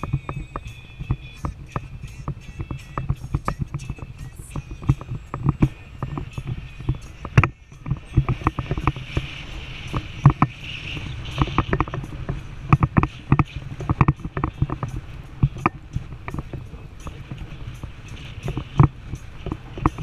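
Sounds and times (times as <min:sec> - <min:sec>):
engine and tyres rumbling: 0:00.0 - 0:20.0.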